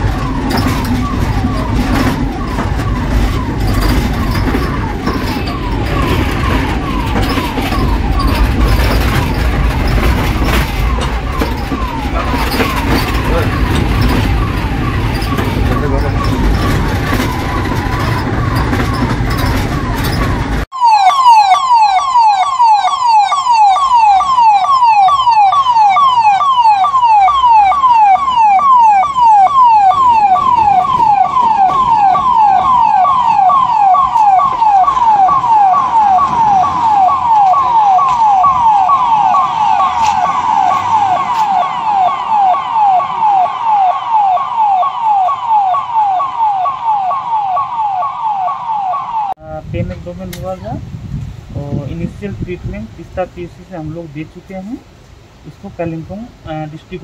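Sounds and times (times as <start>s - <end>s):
ambulance siren: 0.0s - 49.4s
vehicle interior noise: 0.0s - 57.0s.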